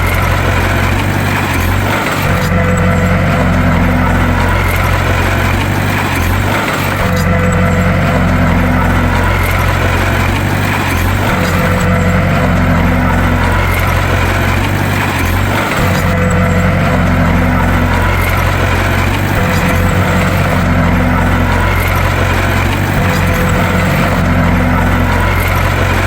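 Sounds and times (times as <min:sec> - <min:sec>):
bulldozer engine running: 0:00.0 - 0:26.0.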